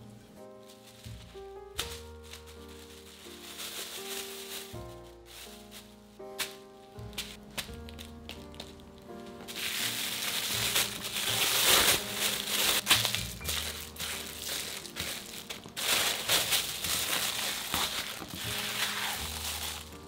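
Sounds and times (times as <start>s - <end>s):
background music: 0.0s - 20.0s
plastic bag crinkling: 0.6s - 20.0s.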